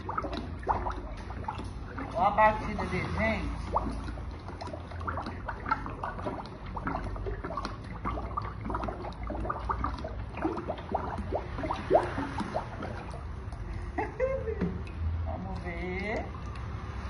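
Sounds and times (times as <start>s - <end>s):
ladle stirring thick mixture: 0.0s - 17.0s.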